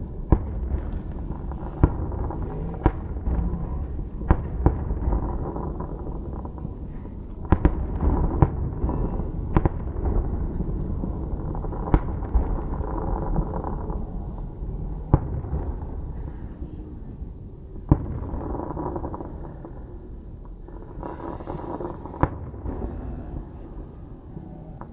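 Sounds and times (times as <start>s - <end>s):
fireworks bangs: 0.0s - 16.5s, 17.8s - 19.8s, 20.8s - 24.9s
low rumble: 0.0s - 24.9s.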